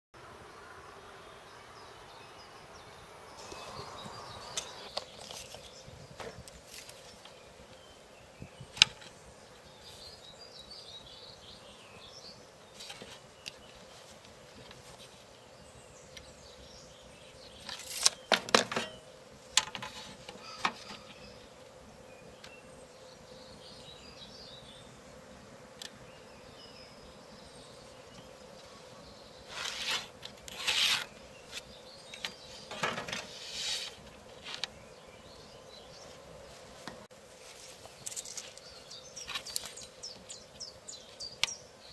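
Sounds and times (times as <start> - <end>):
faint outdoor background: 0.1 - 41.9.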